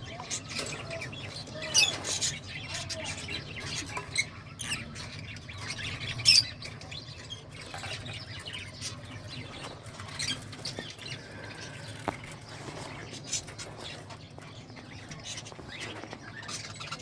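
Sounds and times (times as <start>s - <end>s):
lovebirds chirping and squawking: 0.0s - 17.0s.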